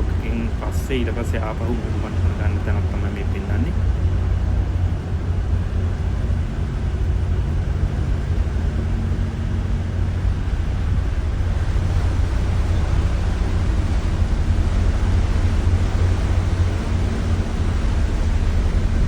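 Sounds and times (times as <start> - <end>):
faint steady hum: 0.0 - 19.0
low rumble: 0.0 - 19.0.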